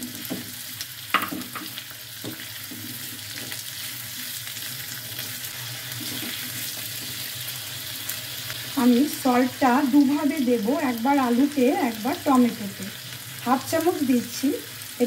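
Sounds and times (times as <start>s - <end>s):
potatoes and onion sizzling in oil: 0.0s - 15.0s.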